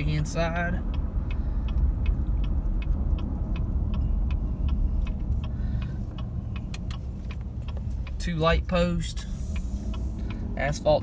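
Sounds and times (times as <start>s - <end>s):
car road and engine rumble: 0.0s - 11.0s
turn signal clicking: 0.0s - 11.0s.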